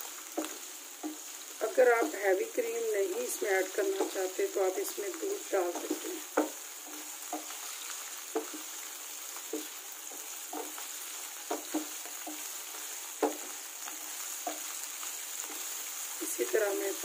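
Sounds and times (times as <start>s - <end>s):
mushrooms sizzling in frying pan: 0.0s - 17.0s
wooden spatula scraping and knocking pan: 0.2s - 15.8s.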